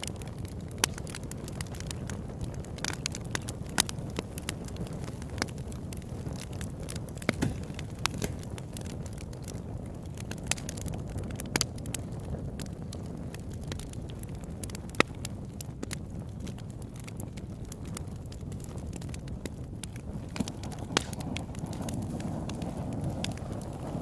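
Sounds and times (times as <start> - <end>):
fire crackling and popping: 0.0 - 24.0
flames rumbling: 0.0 - 24.0.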